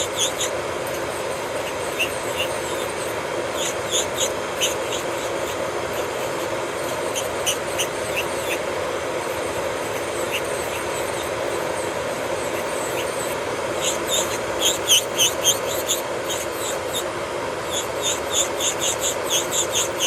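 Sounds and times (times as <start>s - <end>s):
drill bit scratching fingernail: 0.0s - 20.0s
electric nail drill humming: 0.0s - 20.0s.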